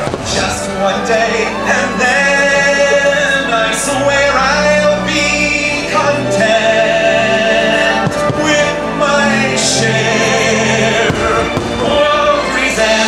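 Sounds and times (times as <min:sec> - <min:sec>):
soundtrack music: 0:00.0 - 0:13.0.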